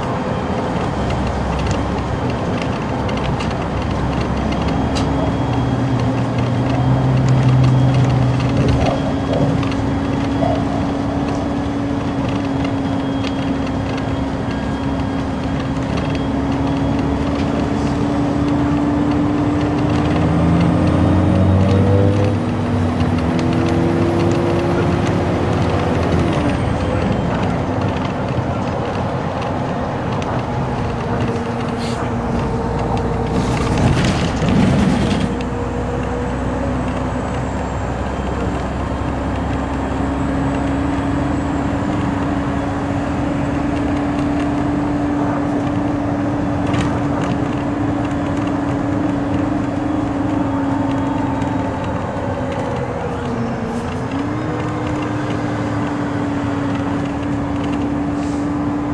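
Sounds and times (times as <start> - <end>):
car road noise from inside: 0.0 - 58.9.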